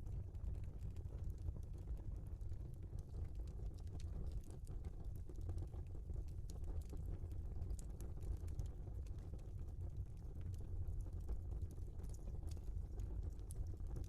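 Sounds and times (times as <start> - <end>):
low rumble of flames: 0.0 - 14.0.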